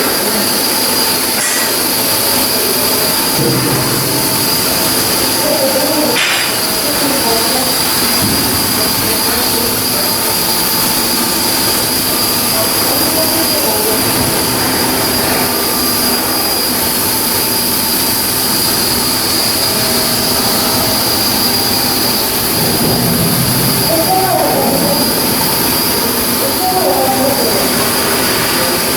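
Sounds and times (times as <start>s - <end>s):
high steady machinery whine: 0.0s - 28.9s
machinery hiss: 0.0s - 28.9s.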